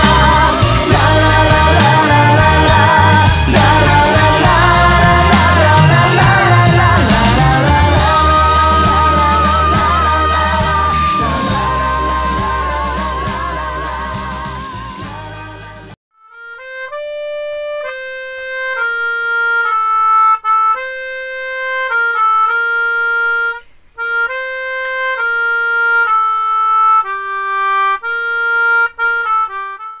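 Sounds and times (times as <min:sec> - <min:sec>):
slow instrumental melody: 0:00.0 - 0:30.0.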